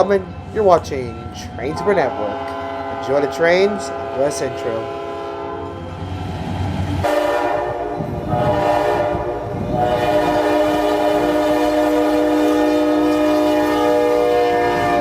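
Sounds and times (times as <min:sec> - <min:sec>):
train rumbling: 0:00.0 - 0:15.0
locomotive air horn: 0:01.4 - 0:05.9, 0:07.0 - 0:15.0.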